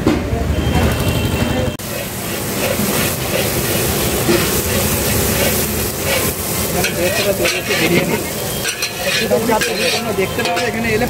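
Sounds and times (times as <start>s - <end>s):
metal ladle scraping: 1.8s - 11.0s
onions sizzling in oil: 1.8s - 11.0s.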